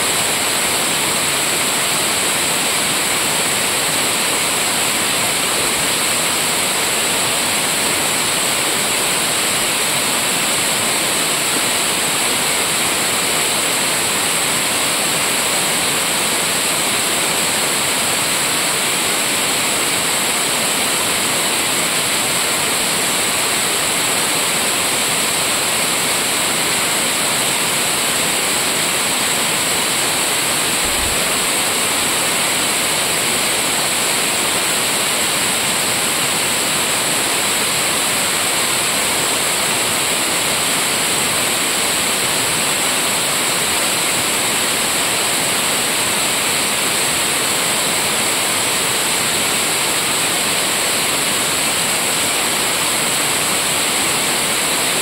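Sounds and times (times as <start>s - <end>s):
water rushing over cascade: 0.0s - 55.0s.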